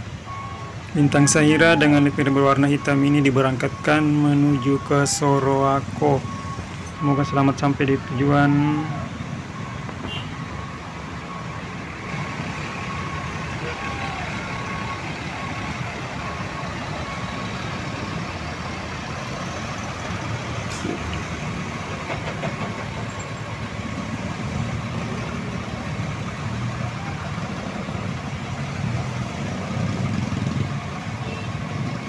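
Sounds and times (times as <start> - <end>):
bus diesel engine idling: 0.0 - 28.9.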